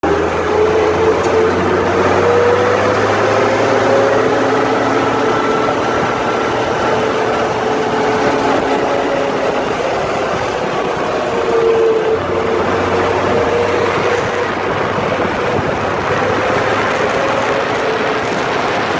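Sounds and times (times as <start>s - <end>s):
steady whining tone: 0.0s - 18.9s
tractor diesel engine running: 0.0s - 18.9s.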